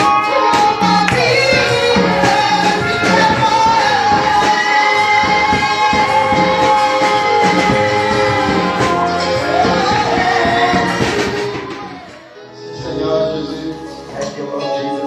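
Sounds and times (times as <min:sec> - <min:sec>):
band with steady percussion beat: 0:00.0 - 0:15.0
person singing long notes: 0:00.0 - 0:15.0.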